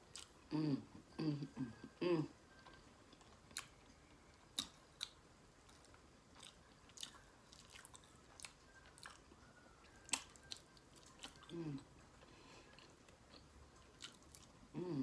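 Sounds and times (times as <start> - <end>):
chewing and mouth sounds: 0.1 - 0.4, 2.6 - 14.6.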